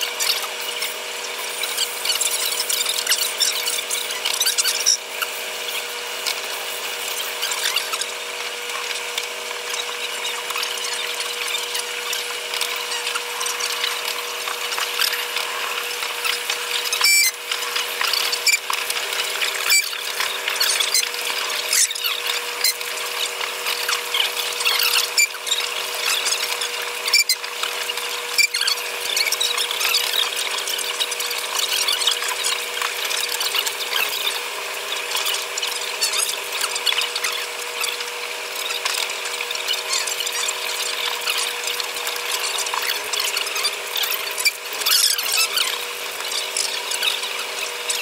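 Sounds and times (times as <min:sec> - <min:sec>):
high squeal and hiss: 0:00.0 - 0:09.0, 0:09.6 - 0:48.0.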